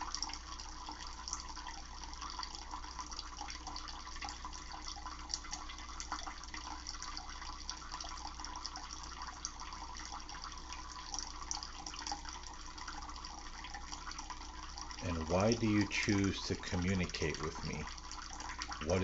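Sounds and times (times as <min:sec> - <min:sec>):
water running and splashing: 0:00.0 - 0:19.0.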